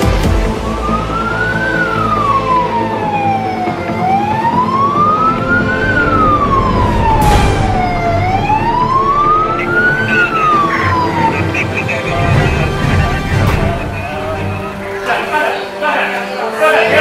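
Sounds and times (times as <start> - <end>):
emergency siren wailing: 0.0 - 15.8.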